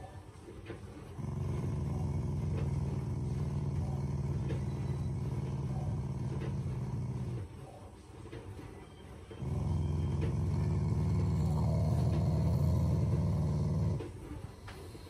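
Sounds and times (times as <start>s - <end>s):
dog growling: 0.6s - 7.6s, 9.3s - 15.0s.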